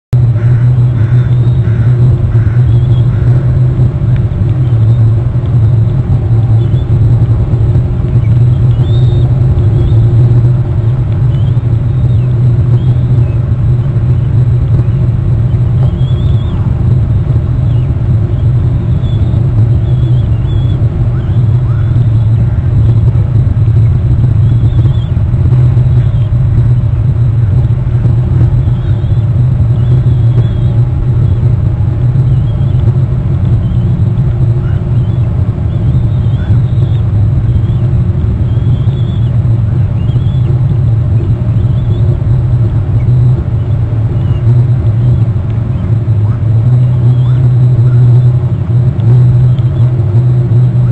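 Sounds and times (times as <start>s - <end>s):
loud low rumble: 0.0s - 50.9s.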